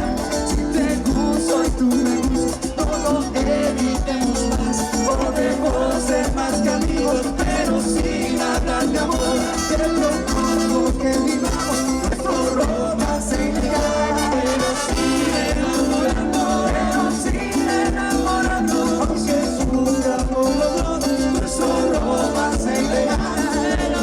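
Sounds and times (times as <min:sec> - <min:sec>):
dance orchestra playing latin music: 0:00.0 - 0:24.0
percussion beat: 0:00.0 - 0:24.0.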